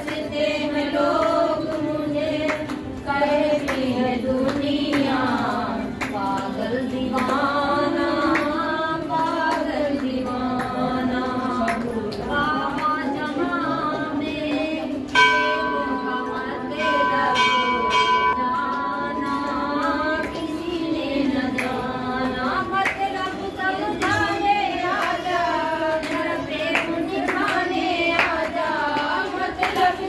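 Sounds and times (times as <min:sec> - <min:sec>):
hand claps: 0:00.0 - 0:30.0
women singing devotional song: 0:00.0 - 0:30.0.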